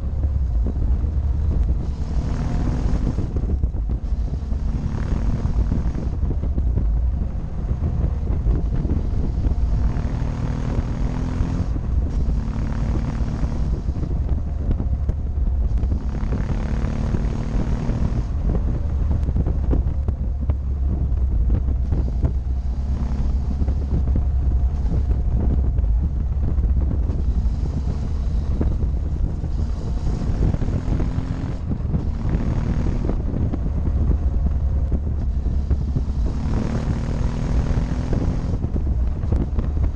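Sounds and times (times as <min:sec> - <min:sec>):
motorcycle engine revving: 0:00.0 - 0:39.9
wind rushing past microphone: 0:00.0 - 0:39.9.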